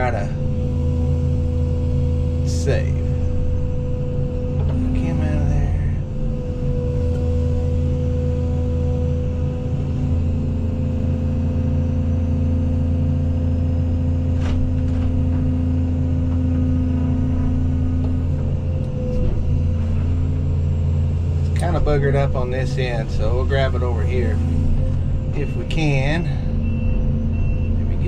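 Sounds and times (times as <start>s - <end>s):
diesel excavator engine running: 0.0s - 28.0s.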